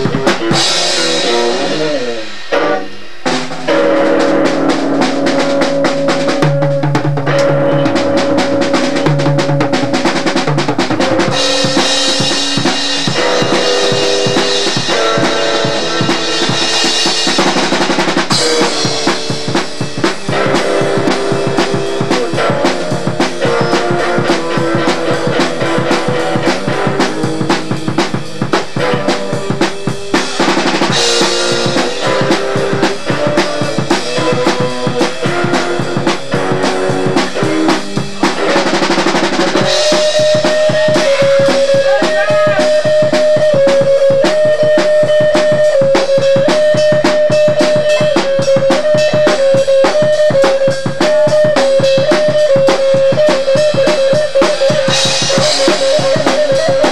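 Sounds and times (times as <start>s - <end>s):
cymbals washing: 0.0s - 56.9s
drum kit played fast: 0.0s - 56.9s
held instrument notes: 0.0s - 56.9s.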